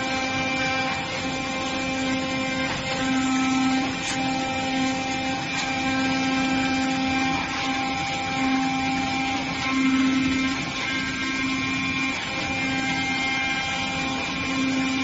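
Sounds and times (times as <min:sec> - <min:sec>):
cutting machine buzz: 0:00.0 - 0:15.0
mechanical whine: 0:00.0 - 0:15.0.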